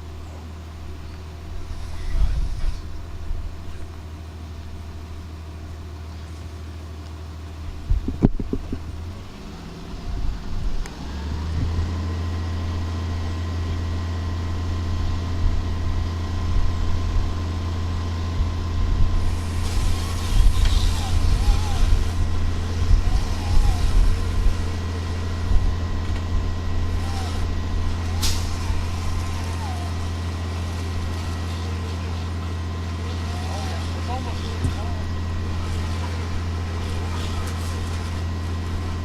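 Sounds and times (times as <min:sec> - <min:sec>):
engine idling: 0:00.0 - 0:39.0
faint whine: 0:00.0 - 0:39.0.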